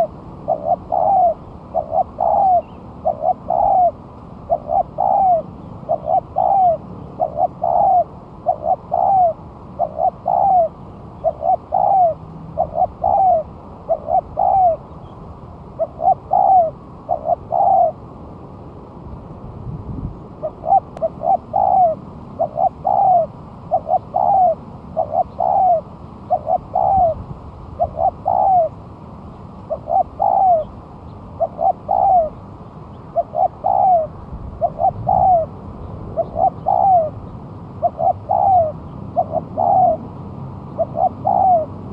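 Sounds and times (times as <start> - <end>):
dove cooing: 0.0 - 15.0, 15.7 - 18.0, 20.4 - 27.2, 27.8 - 28.8, 29.6 - 30.7, 31.4 - 32.4, 33.1 - 41.9.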